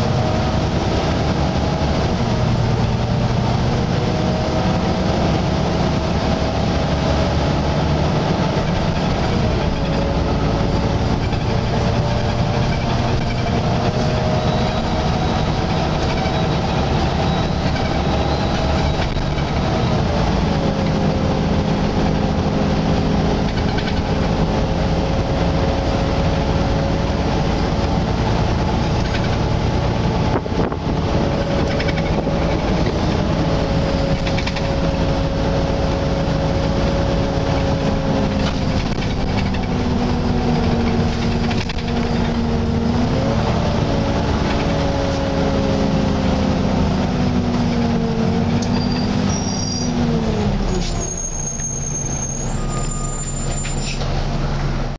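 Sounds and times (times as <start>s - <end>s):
bus engine and road noise: 0.0s - 54.9s.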